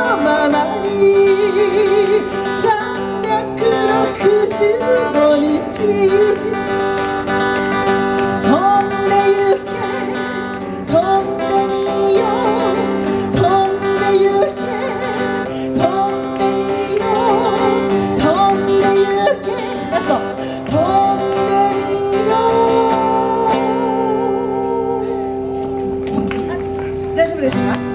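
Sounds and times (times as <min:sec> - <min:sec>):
woman singing: 0:00.0 - 0:25.9
acoustic guitar strumming: 0:00.0 - 0:27.9.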